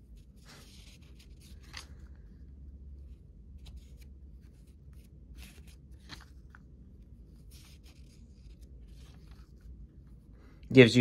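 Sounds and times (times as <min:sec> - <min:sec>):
book pages turning: 0:00.0 - 0:10.0
faint low hum: 0:00.0 - 0:11.0.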